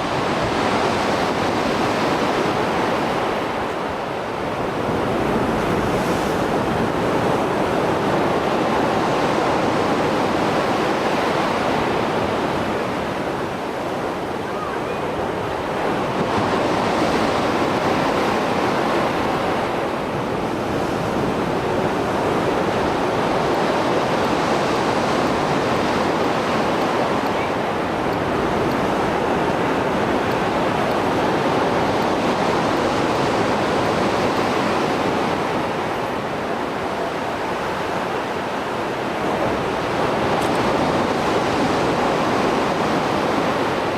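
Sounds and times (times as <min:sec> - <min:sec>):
surf waves breaking: 0:00.0 - 0:43.9
wind noise on microphone: 0:00.0 - 0:43.9.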